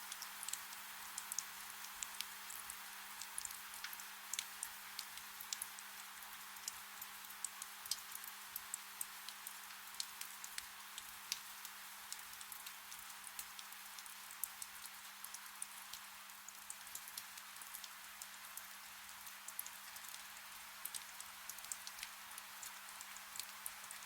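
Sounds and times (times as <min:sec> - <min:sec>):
soft rain hissing: 0:00.0 - 0:24.0
raindrops ticking: 0:00.1 - 0:18.3, 0:19.2 - 0:24.0.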